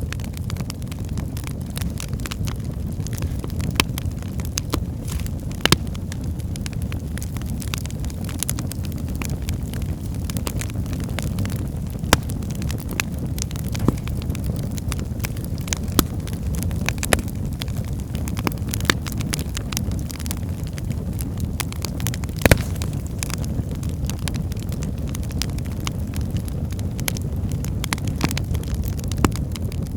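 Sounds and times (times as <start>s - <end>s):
burning logs crackling and popping: 0.0s - 29.9s
fire flames rumbling: 0.0s - 29.9s.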